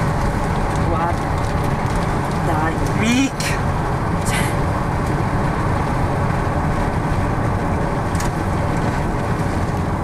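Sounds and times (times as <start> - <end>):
car cabin road and engine noise: 0.0 - 10.0.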